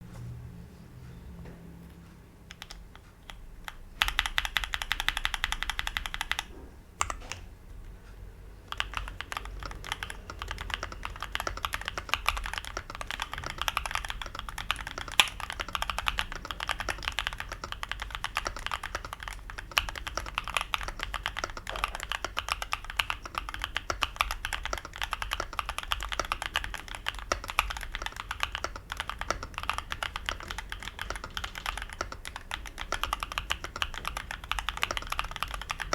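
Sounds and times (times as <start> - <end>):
mechanical keyboard typing: 2.5 - 7.5, 8.6 - 35.9.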